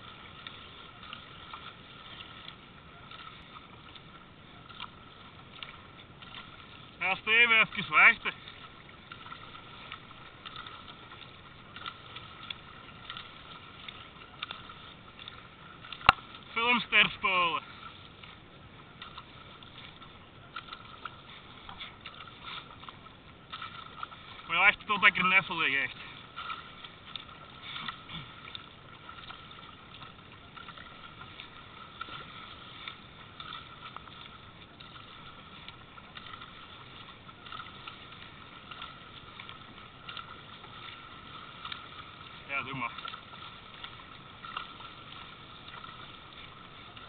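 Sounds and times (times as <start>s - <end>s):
water slaps: 0.0s - 18.4s, 19.0s - 47.0s
paddle blades dipping: 0.0s - 47.0s
water lapping against hull: 0.0s - 47.0s.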